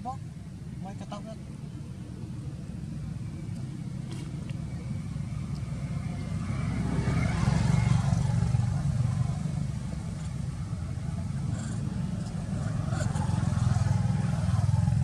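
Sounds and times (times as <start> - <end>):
vehicle engine passing: 0.9 - 15.0.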